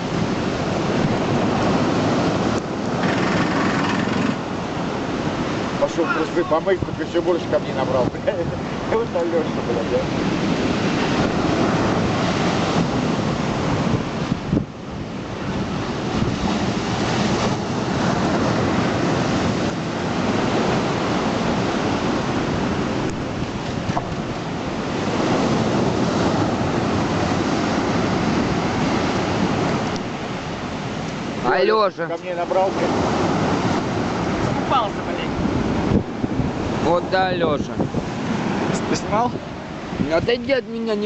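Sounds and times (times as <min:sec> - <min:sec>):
surf breaking on shore: 0:00.0 - 0:41.0
wind buffeting microphone: 0:00.0 - 0:41.0.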